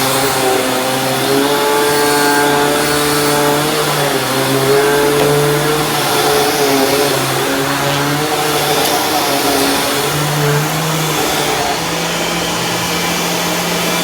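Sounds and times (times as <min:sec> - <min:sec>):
vacuum cleaner running on carpet: 0:00.0 - 0:14.0.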